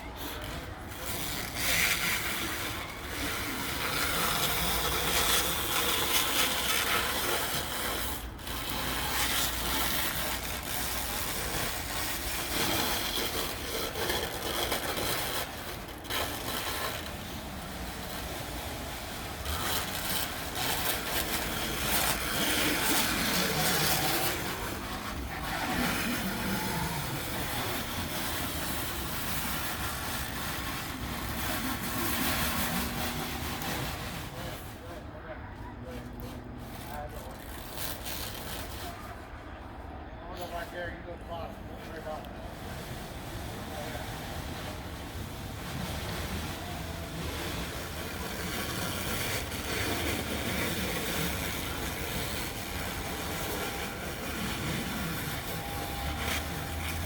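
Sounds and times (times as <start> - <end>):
plastic wrap pulled and stretched: 0.0 - 35.3, 35.9 - 39.6, 41.8 - 57.0.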